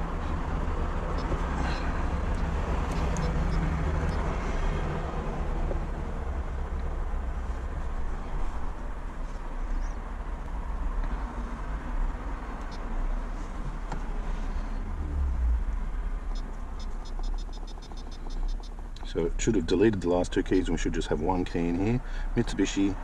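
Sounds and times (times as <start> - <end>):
steady low rumble: 0.0 - 21.8.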